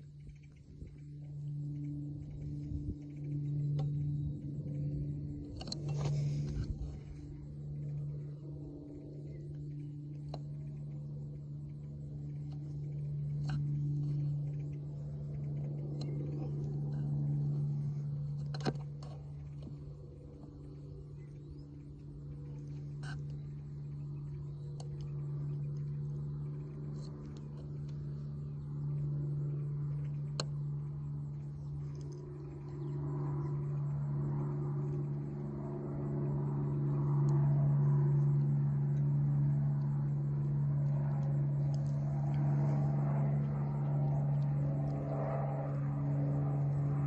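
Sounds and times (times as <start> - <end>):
propeller aircraft engines droning: 0.0 - 47.0.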